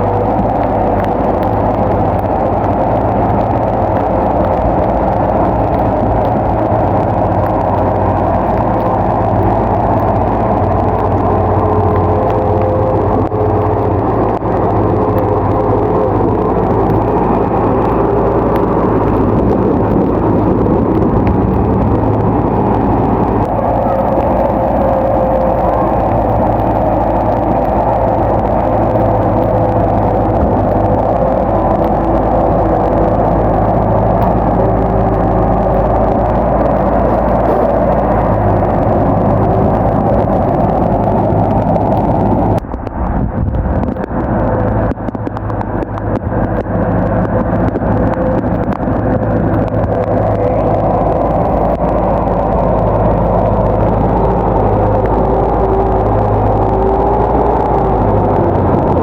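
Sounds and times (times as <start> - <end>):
bulldozer diesel engine drone: 0.0 - 59.0
faint clicks: 0.0 - 59.0.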